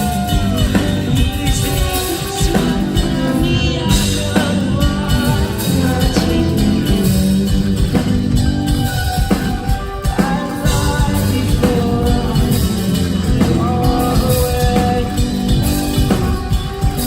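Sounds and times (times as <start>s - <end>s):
bass guitar: 0.0s - 17.0s
distorted electric guitars: 0.0s - 17.0s
drum kit: 0.0s - 17.0s
person singing: 0.0s - 17.0s.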